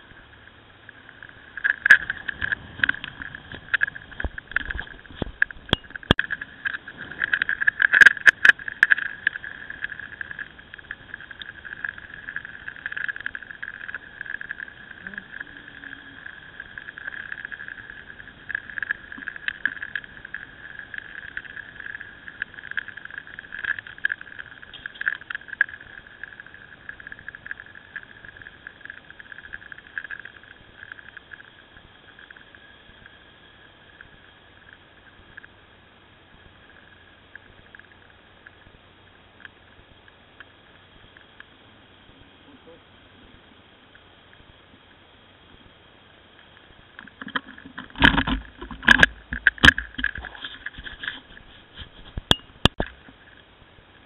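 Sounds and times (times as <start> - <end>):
muffled motorcycle ride hum: 0.0 - 54.0.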